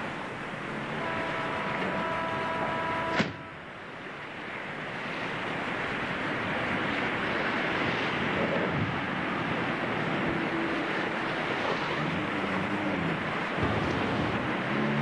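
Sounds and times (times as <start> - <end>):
lake water: 0.0 - 15.0
wind: 0.0 - 15.0.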